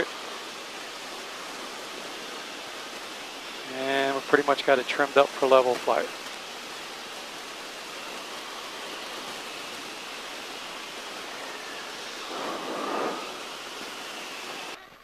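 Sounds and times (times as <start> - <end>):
aircraft cabin engine hiss: 0.0 - 14.8.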